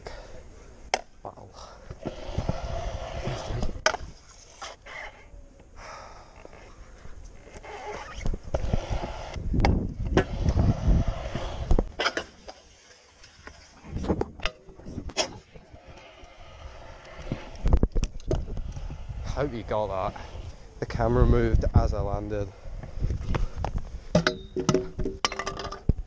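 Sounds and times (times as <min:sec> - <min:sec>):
scooter wheels rumbling on concrete: 0:00.2 - 0:26.0.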